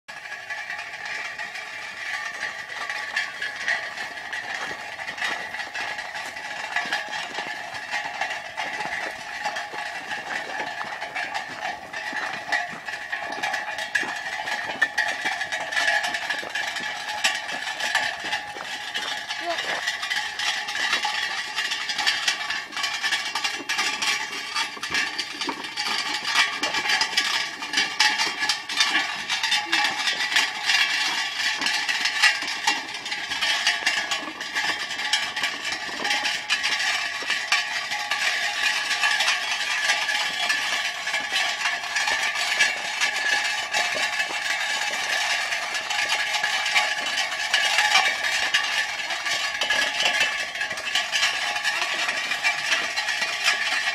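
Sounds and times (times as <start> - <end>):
cart rattling and clattering: 0.1 - 53.9
steady ringing: 0.1 - 53.9.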